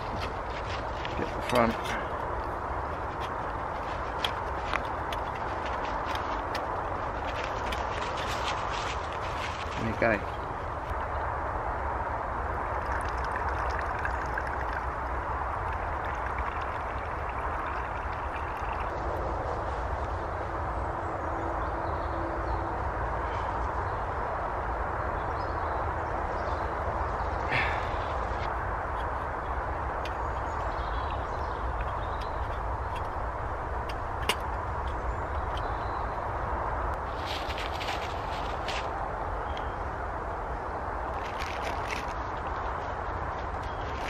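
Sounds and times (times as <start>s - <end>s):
steady rushing background noise: 0.0s - 44.0s.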